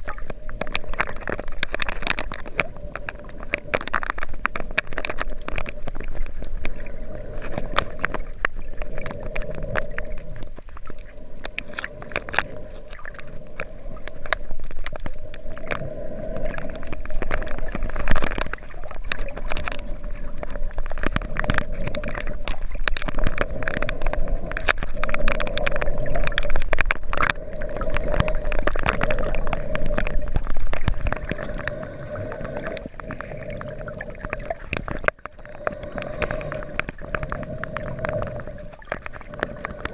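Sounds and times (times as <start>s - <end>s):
muffled underwater water wash: 0.0s - 39.9s
sharp underwater clicks and crackles: 0.0s - 39.9s.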